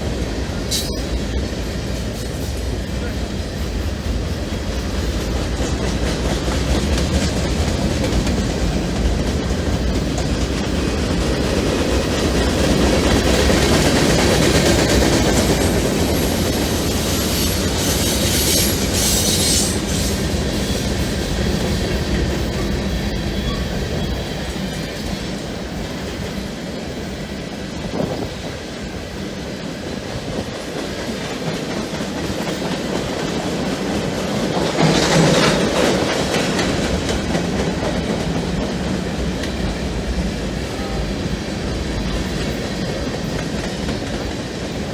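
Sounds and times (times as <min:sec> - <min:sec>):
freight train wheels clattering: 0:00.0 - 0:44.9.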